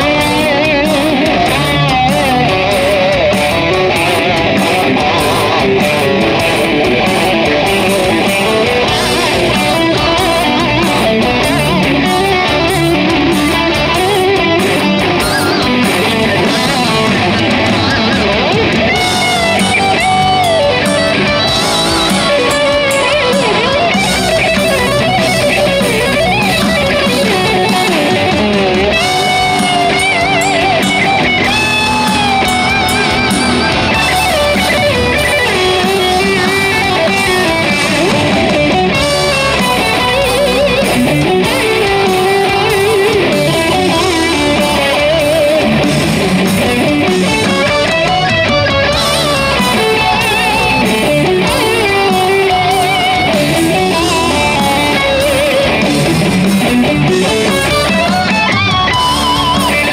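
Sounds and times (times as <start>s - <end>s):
heavy metal electric guitar lead: 0.0s - 59.9s.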